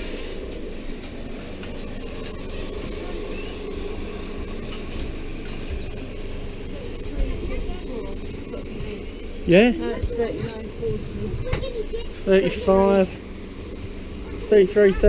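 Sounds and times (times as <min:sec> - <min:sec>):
train coach mechanical hum: 0:00.0 - 0:15.0.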